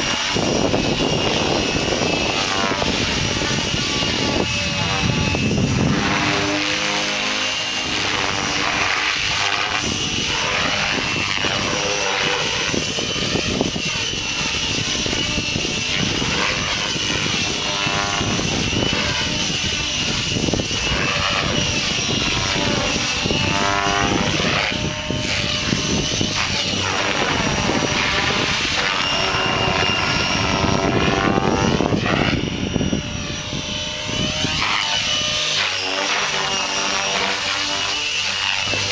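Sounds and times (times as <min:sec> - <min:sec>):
high motor whine: 0:00.0 - 0:38.9
rc helicopter rotor whoosh: 0:00.0 - 0:38.9.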